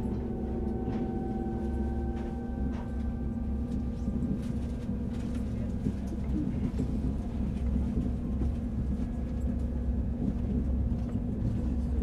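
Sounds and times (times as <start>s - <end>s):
constant hum: 0.0s - 12.0s
train running gear rumble: 0.0s - 12.0s.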